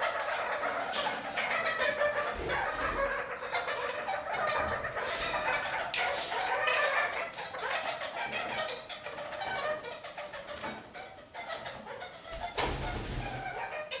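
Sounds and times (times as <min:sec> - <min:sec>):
parakeets chattering: 0:00.0 - 0:14.0.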